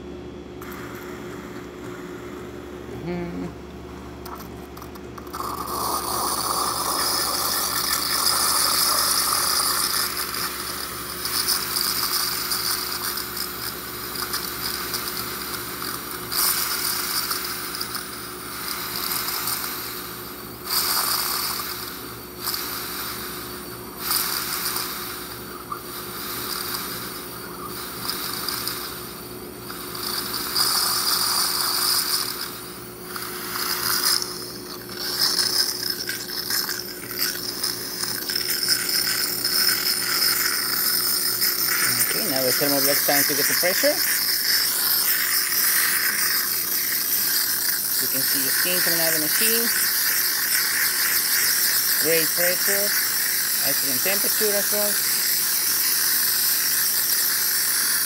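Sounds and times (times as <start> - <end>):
espresso machine pump buzzing: 0.0 - 58.0
steam wand hissing and sputtering: 5.2 - 58.0.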